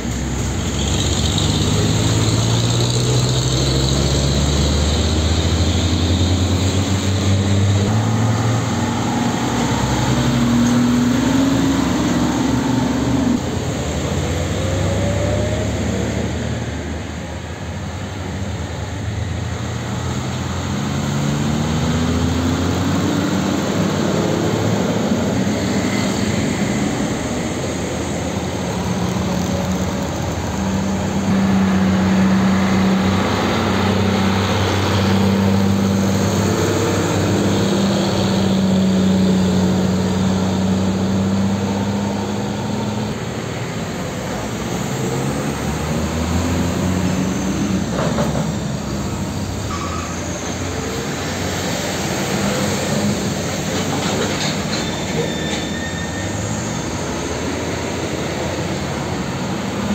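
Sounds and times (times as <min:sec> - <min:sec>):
truck engines droning: 0:00.0 - 0:59.9
tyre and road noise: 0:00.0 - 0:59.9.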